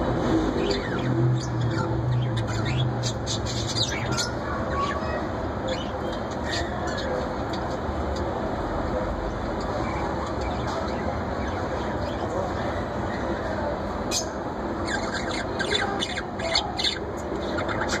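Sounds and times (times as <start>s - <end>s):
steady background noise: 0.0s - 18.0s
budgerigars chirping and squawking: 0.6s - 8.3s, 9.4s - 18.0s.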